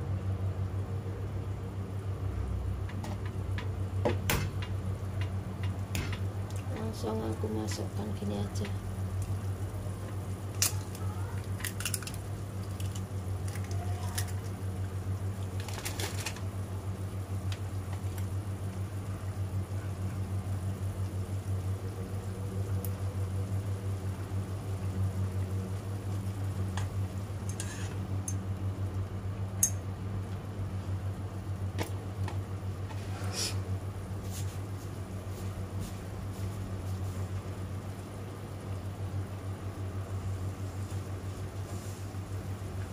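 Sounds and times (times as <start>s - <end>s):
noodles simmering in pot: 0.0s - 42.9s
steady low hum: 0.0s - 42.9s.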